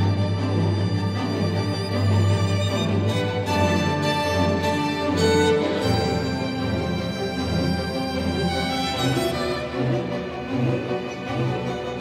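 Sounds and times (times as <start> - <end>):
solo violin: 0.0 - 12.0
string orchestra: 0.0 - 12.0.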